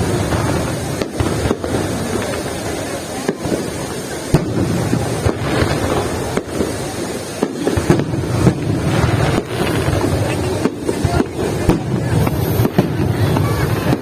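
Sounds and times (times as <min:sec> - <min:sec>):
fireworks bangs and crackles: 0:00.0 - 0:14.0
fireworks rumbling: 0:00.0 - 0:14.0.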